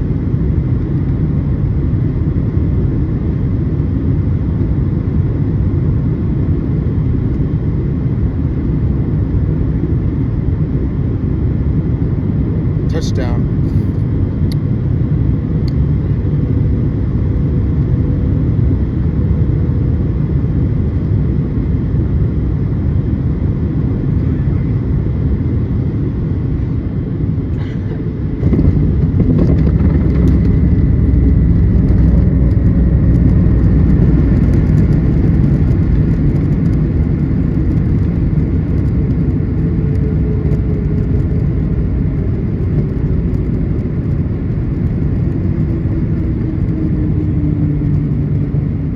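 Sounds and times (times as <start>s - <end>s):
deep rumble of engines and wheels: 0.0s - 48.9s.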